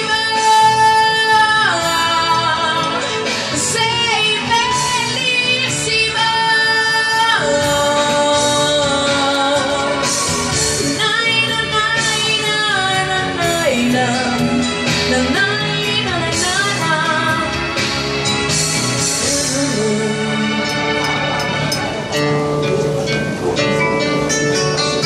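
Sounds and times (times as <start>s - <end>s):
woman singing into microphone: 0.0s - 18.0s, 19.0s - 21.7s
karaoke backing track: 0.0s - 25.0s.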